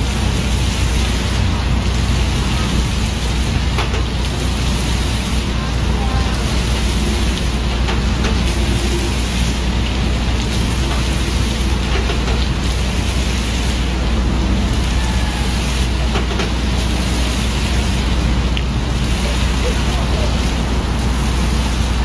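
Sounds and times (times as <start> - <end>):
falling water splashing: 0.0 - 22.0.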